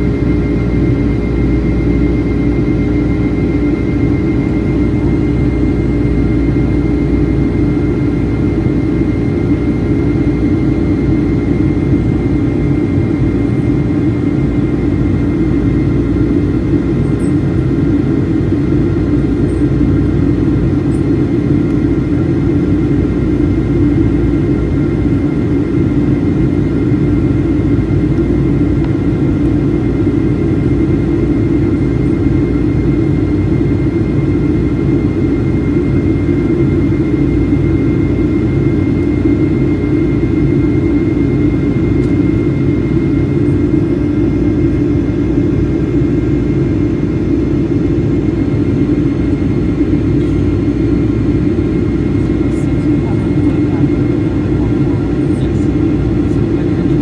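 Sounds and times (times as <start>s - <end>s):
constant hum tones: 0.0s - 57.0s
jet engine roar in cabin: 0.0s - 57.0s.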